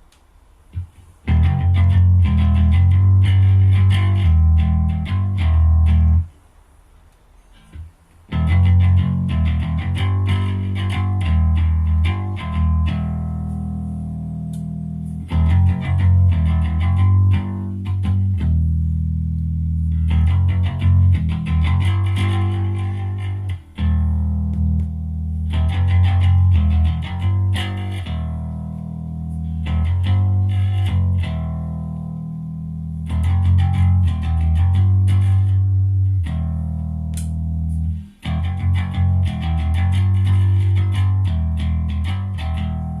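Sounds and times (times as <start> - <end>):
electric bass guitar riffs: 0.8 - 6.3, 7.6 - 43.0.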